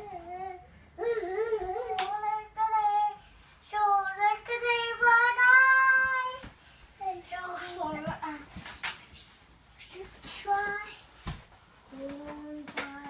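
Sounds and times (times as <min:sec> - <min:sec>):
child singing wordlessly: 0:00.0 - 0:13.0.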